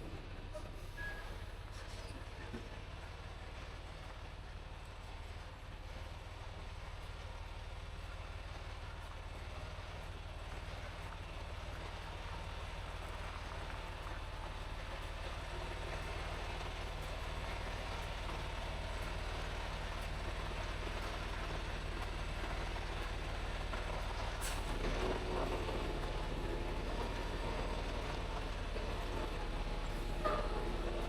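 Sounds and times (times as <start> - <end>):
truck engine and road hum: 0.0 - 31.0.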